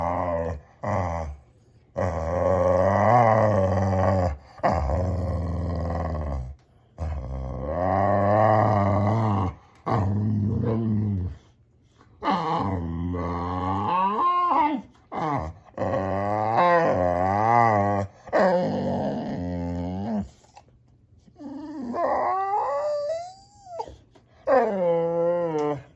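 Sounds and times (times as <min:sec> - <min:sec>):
dog whining: 0:00.0 - 0:01.4, 0:02.0 - 0:11.5, 0:12.2 - 0:25.9
dog growl-moaning: 0:00.0 - 0:11.5, 0:12.2 - 0:20.6, 0:21.3 - 0:25.9.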